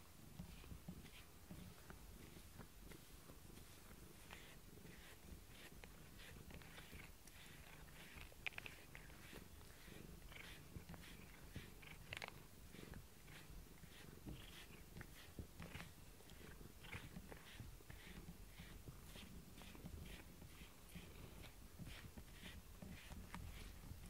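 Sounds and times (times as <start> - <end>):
cat purring: 0.2 - 24.0
scratchy ticks on bristle brush: 0.3 - 24.0.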